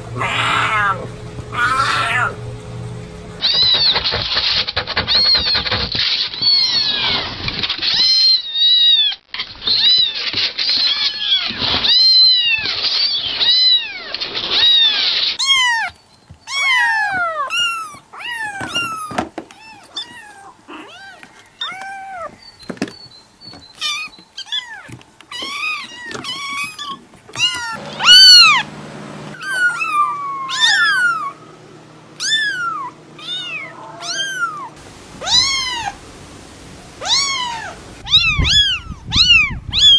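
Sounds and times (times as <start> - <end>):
cats meowing: 0.1 - 2.5, 6.4 - 22.4, 23.6 - 28.6, 29.4 - 31.5, 32.2 - 36.0, 37.0 - 39.9.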